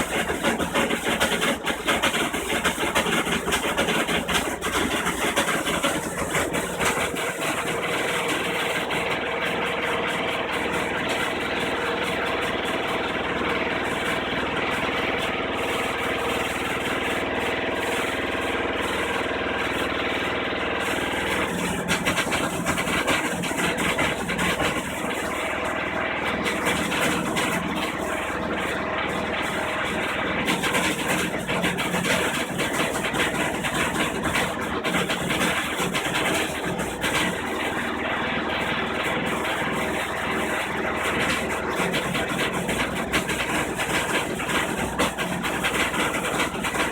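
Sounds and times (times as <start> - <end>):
washing machine drum spinning: 0.0 - 46.9.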